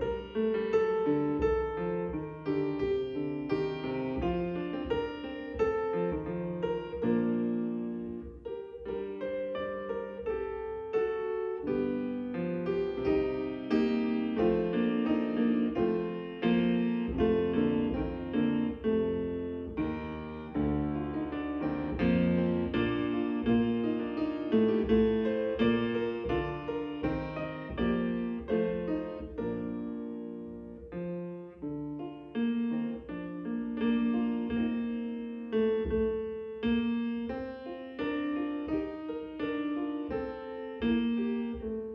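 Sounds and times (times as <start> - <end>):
piano playing: 0.0 - 41.9.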